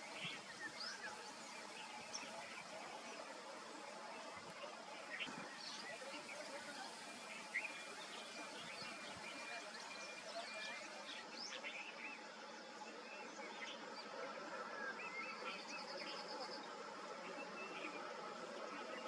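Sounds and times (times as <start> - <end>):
faint outdoor hiss: 0.0 - 19.0
wild birds chirping and whistling: 0.0 - 19.0.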